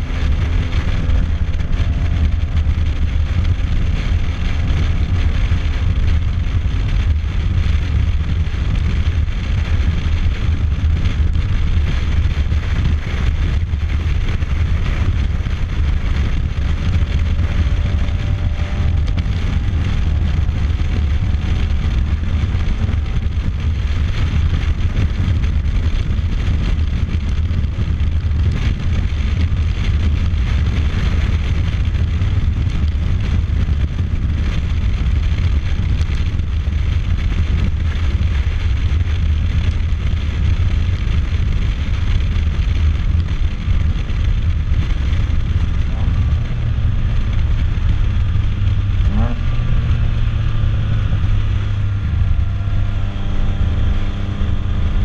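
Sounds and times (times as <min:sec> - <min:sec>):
motorcycle engine: 0:00.0 - 0:55.0
wind rush: 0:00.0 - 0:55.0.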